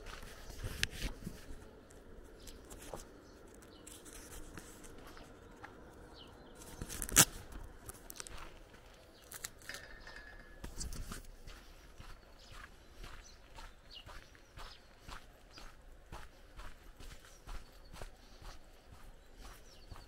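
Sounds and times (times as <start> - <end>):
footsteps on gravel: 0.0 - 20.0.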